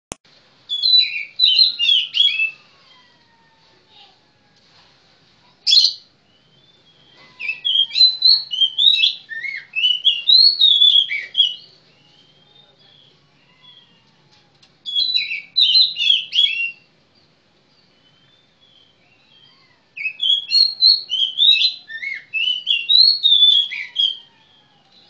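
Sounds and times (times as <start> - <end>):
songbird whistling song: 0.7 - 2.6, 5.6 - 14.0, 14.8 - 25.0.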